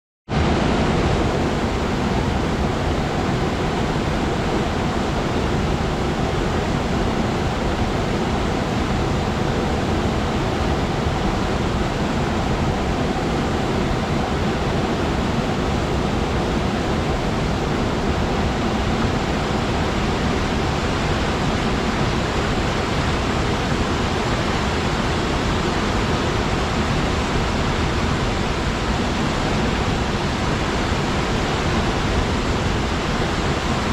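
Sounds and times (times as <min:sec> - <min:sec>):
waterfall roaring: 0:00.4 - 0:33.9.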